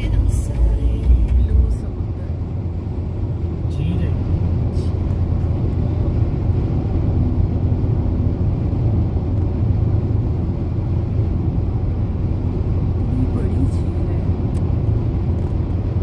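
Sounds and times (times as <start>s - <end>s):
car tyres and engine rumble: 0.0s - 16.0s.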